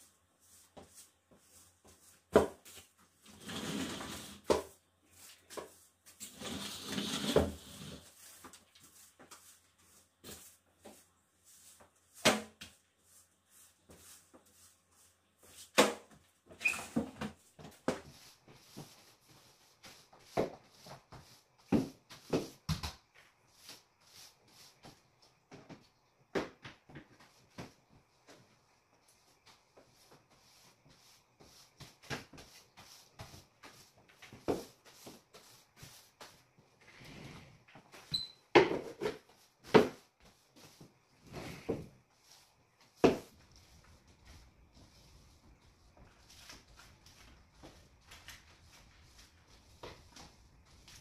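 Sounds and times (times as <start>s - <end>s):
broom sweeping floor: 0.0s - 51.0s.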